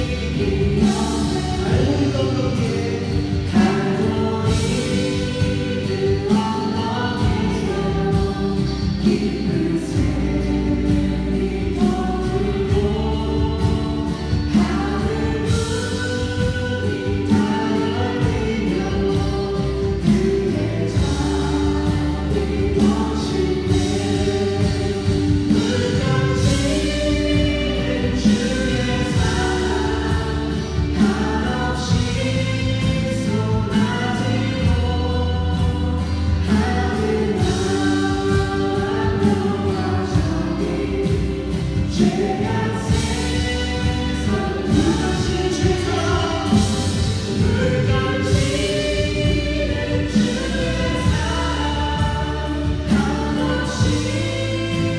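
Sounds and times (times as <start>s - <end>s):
congregation singing: 0.0s - 54.9s.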